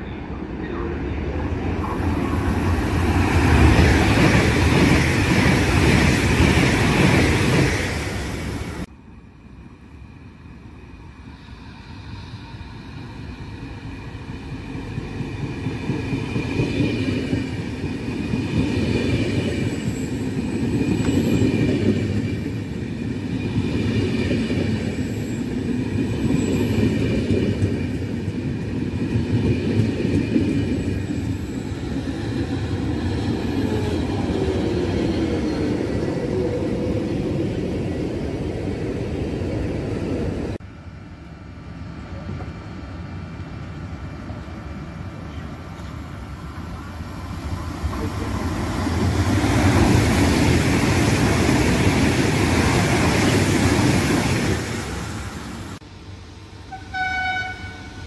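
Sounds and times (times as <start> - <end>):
train wheels rumbling on rails: 0.7 - 8.9, 11.0 - 40.7, 41.7 - 58.0.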